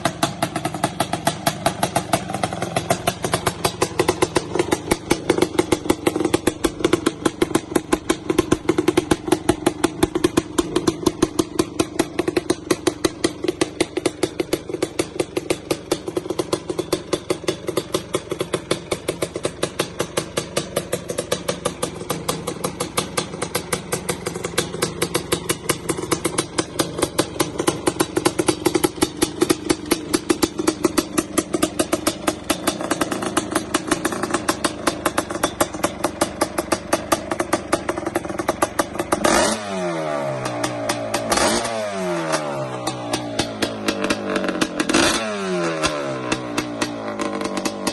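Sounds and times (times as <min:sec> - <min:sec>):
two-stroke engine idling: 0:00.0 - 0:47.9.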